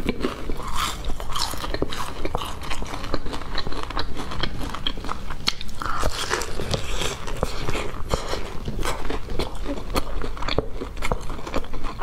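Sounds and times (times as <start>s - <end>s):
crunchy chewing of fried chicken: 0.0s - 12.0s.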